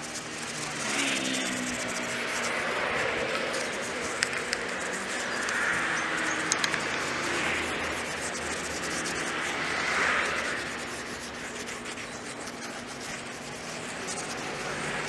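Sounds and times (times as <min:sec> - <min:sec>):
hand scrubbing hiss: 0:00.0 - 0:15.0.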